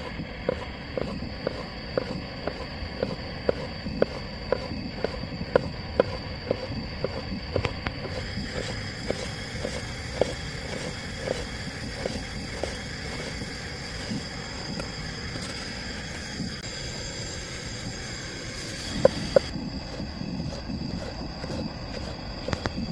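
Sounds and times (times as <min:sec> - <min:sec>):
steady hiss: 0:00.0 - 0:22.9.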